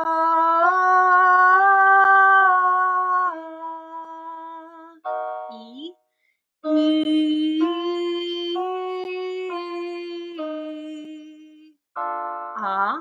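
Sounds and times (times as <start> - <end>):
woman singing a scale: 0.0 - 6.0, 6.6 - 11.8, 12.6 - 13.0.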